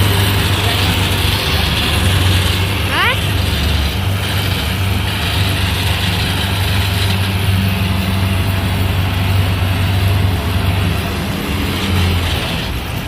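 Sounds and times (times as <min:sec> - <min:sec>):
harvester engine humming: 0:00.0 - 0:13.0.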